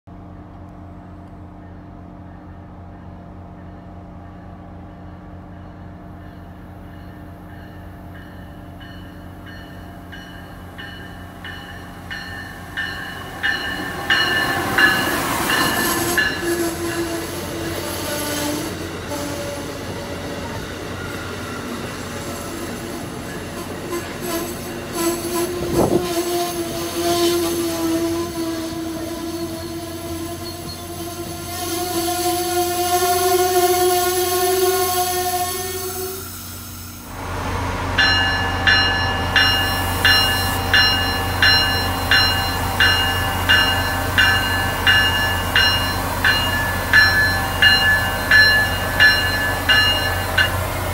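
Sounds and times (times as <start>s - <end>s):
passenger train passing: 0.1s - 50.9s.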